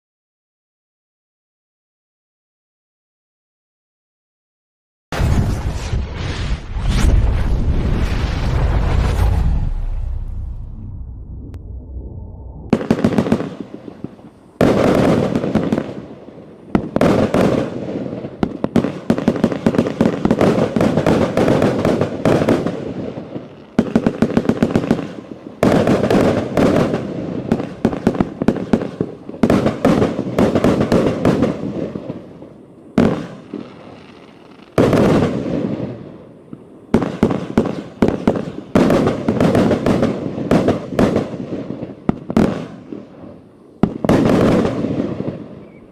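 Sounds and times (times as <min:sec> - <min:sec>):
fireworks bangs and popping: 0:05.1 - 0:10.5, 0:12.7 - 0:45.9.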